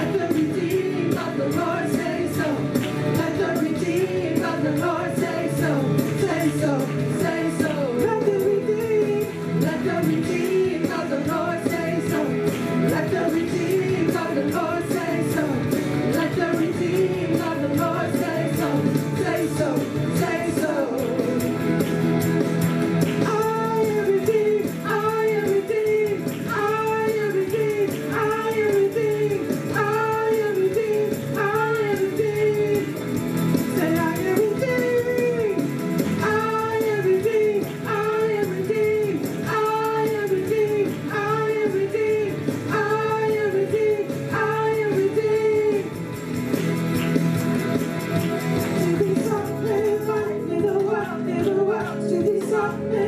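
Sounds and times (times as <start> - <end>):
women singing into microphones: 0.0 - 21.9, 23.2 - 33.0, 33.6 - 46.0, 48.6 - 53.0
instrumental backing: 0.0 - 53.0.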